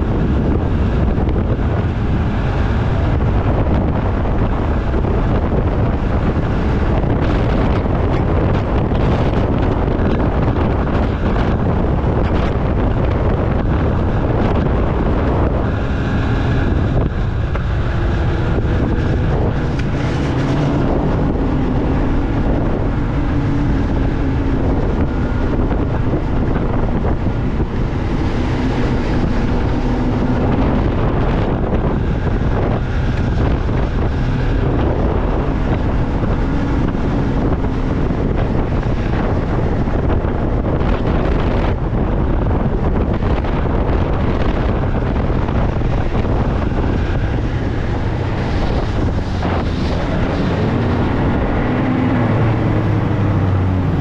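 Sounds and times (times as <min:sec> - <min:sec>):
snowmobile engine: 0:00.0 - 0:54.0
wind noise on microphone: 0:00.0 - 0:54.0.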